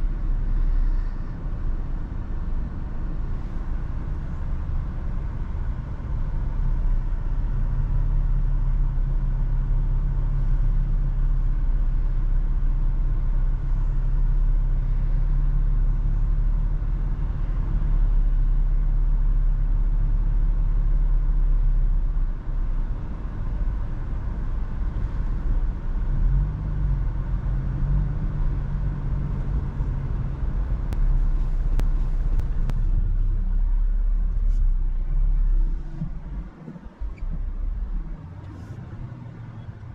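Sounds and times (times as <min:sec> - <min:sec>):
car engine and tyre road rumble: 0:00.0 - 0:39.9.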